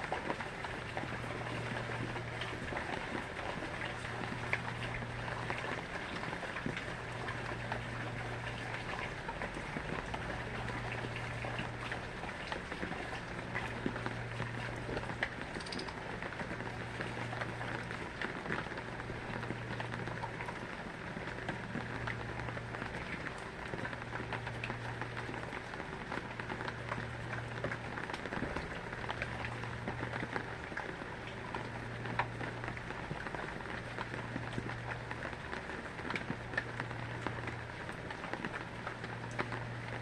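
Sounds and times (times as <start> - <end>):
rain pattering: 0.0 - 40.0.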